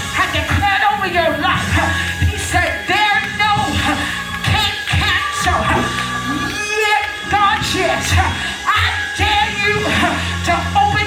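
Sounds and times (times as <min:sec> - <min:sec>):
organ chords: 0:00.0 - 0:11.0
person singing: 0:00.2 - 0:11.0.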